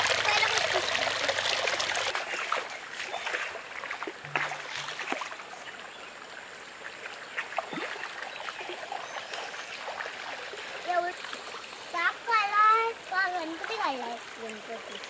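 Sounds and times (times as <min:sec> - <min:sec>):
water drips: 0:00.0 - 0:05.8, 0:06.8 - 0:15.0
water trickling over stone wall: 0:00.0 - 0:15.0.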